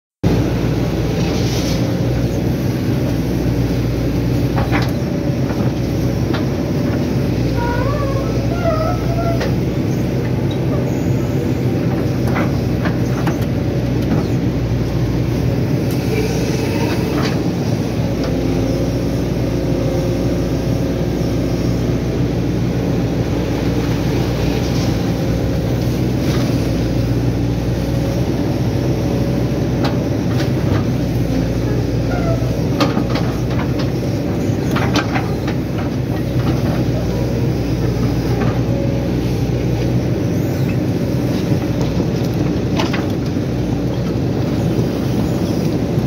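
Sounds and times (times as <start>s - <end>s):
excavator diesel engine running: 0.2s - 46.0s.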